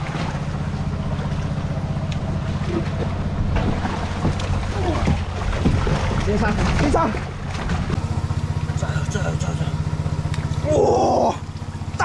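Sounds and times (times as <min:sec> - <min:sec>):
water pumps droning: 0:00.0 - 0:12.0
water splashing: 0:00.0 - 0:12.0.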